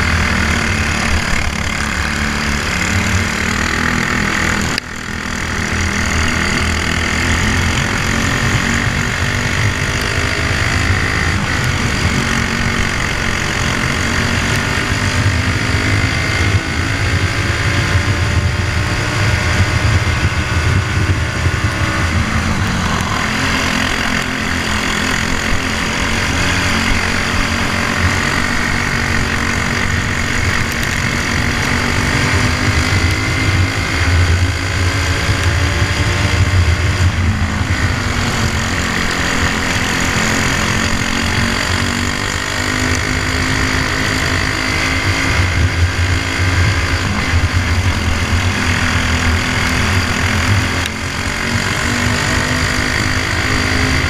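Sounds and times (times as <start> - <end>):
kart engine running hard: 0.0 - 54.0
rush of noise: 0.0 - 54.0.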